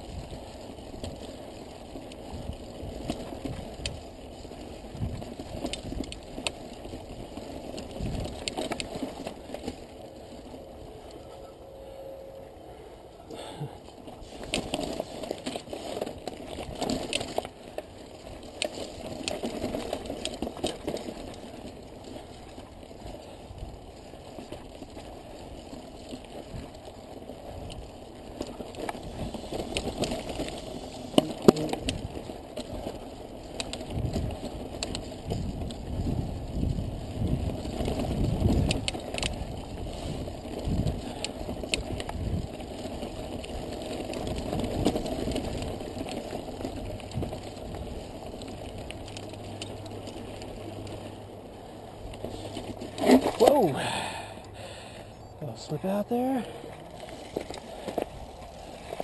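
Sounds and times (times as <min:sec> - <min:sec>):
bike tyres rolling over stones: 0:00.0 - 0:11.6, 0:12.5 - 0:59.0
bike rattling: 0:00.0 - 0:59.0.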